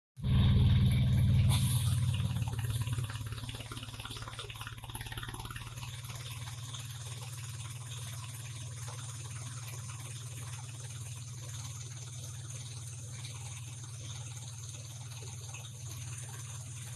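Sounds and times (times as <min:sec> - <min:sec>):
diesel engine humming: 0:00.2 - 0:13.9.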